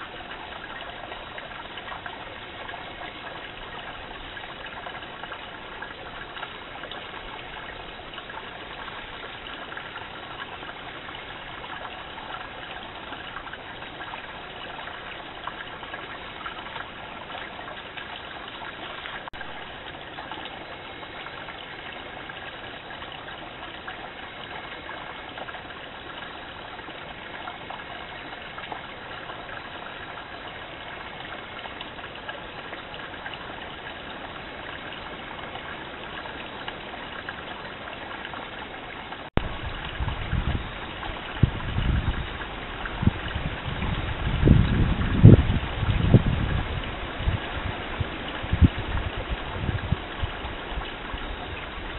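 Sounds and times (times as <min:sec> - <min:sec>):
stream running: 0:00.0 - 0:51.9.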